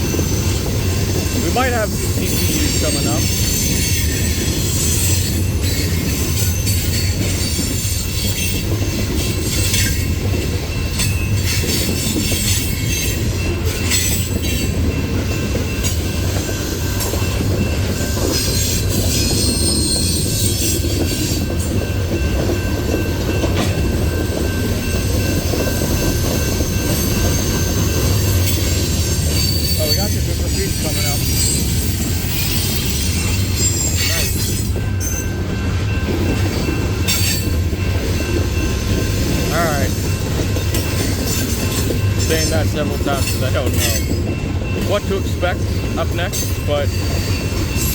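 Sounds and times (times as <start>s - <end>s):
wheels squealing against rail: 0.0s - 21.9s, 23.6s - 47.9s
freight train rumbling past: 0.0s - 47.9s.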